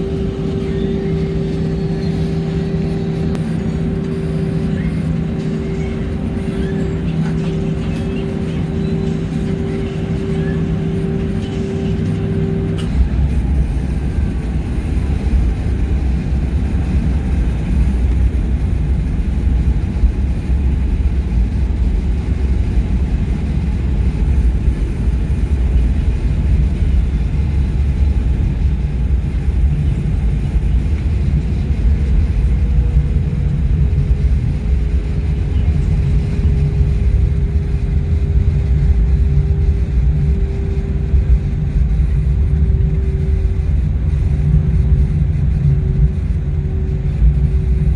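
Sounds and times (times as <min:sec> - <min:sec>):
airliner cabin engine rumble: 0:00.0 - 0:47.9.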